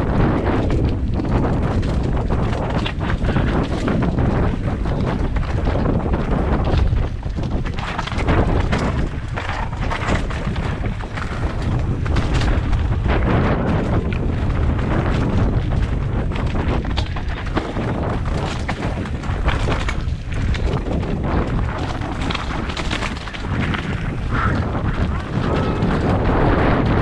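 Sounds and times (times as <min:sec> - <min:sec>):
bike rattling and knocking: 0:00.0 - 0:27.0
wind buffeting microphone: 0:00.0 - 0:27.0.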